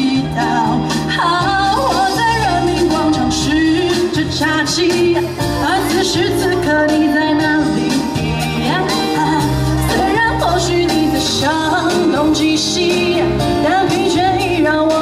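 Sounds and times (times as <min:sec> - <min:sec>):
bass line: 0:00.0 - 0:15.0
keyboard: 0:00.0 - 0:15.0
woman singing with vibrato: 0:00.0 - 0:15.0.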